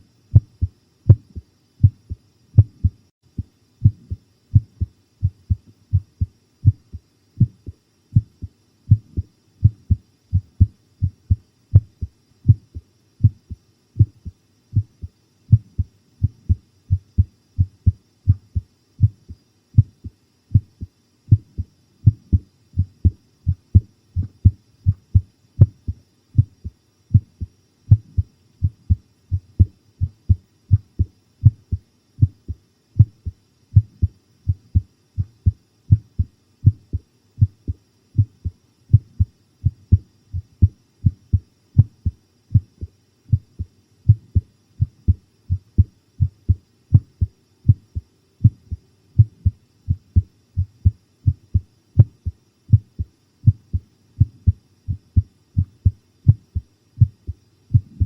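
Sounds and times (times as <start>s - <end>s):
human heartbeat: 0.3s - 58.0s.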